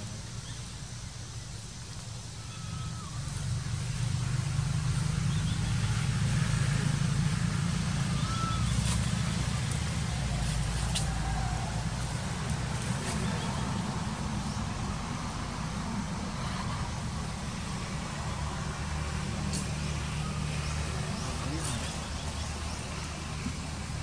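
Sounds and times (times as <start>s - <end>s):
low engine-like rumble: 0.0s - 24.0s.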